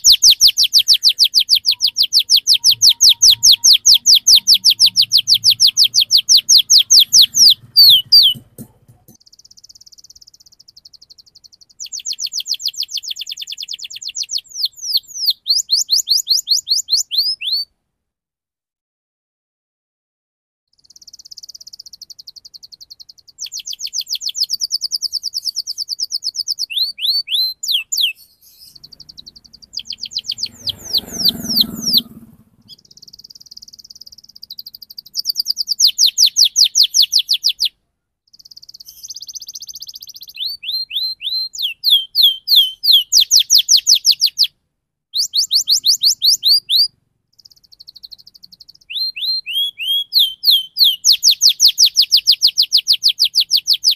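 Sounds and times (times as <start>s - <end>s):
canary singing trills: 0.0s - 17.7s, 20.8s - 53.9s.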